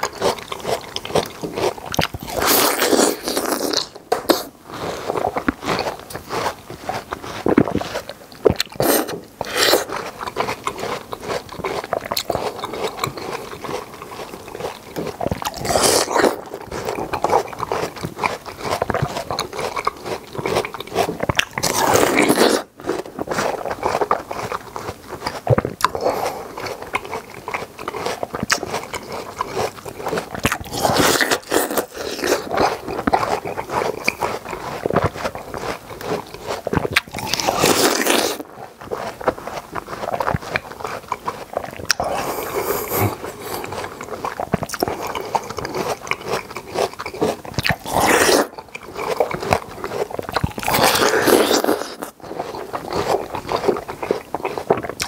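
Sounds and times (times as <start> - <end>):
crunchy bites into watermelon: 0.0 - 55.0
wet chewing: 0.0 - 55.0.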